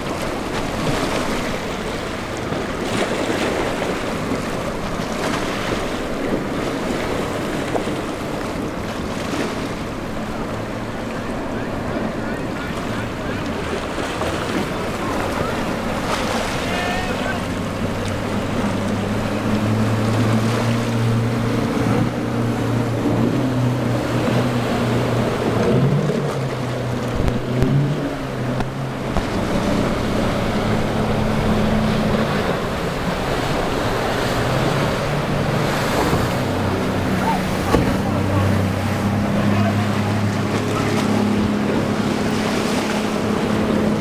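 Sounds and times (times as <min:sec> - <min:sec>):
churning wake water: 0:00.0 - 0:44.0
outboard boat motors running: 0:00.0 - 0:44.0
surf rushing: 0:00.0 - 0:44.0.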